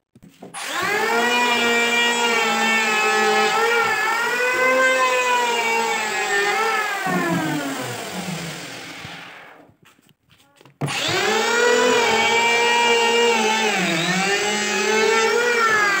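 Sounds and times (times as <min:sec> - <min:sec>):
electric planer motor whine: 0:00.6 - 0:09.6, 0:10.9 - 0:16.0.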